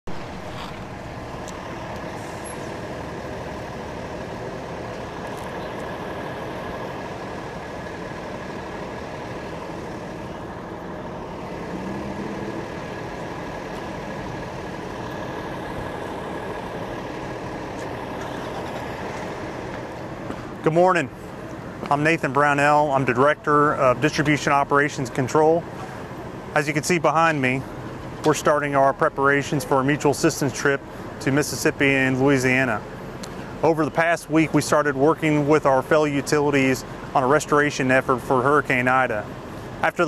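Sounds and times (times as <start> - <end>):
trucks idling: 0.0 - 40.0.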